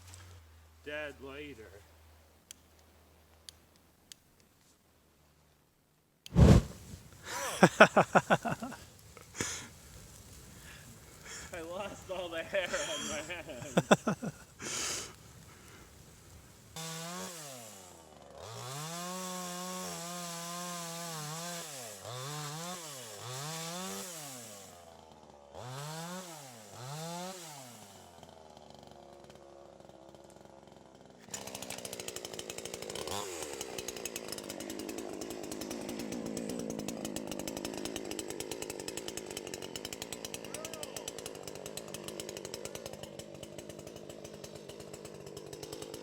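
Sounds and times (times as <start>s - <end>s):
loud chainsaw rapid firing: 6.4s - 24.9s, 25.6s - 29.2s, 31.3s - 46.0s
chainsaw revving and idling: 6.8s - 46.0s.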